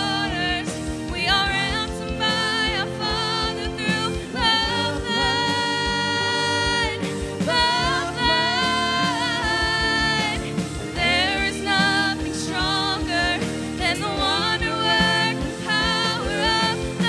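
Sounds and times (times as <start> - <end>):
band accompaniment: 0.0 - 17.0
woman singing with vibrato: 0.0 - 17.0.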